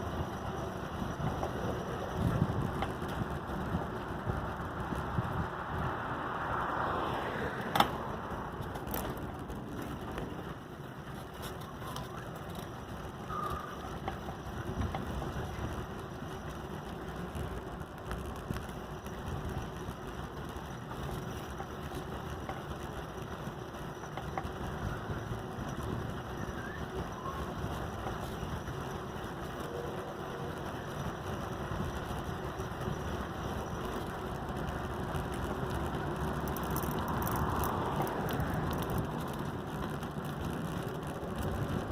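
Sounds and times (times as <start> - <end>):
road and wind noise: 0.0 - 41.9.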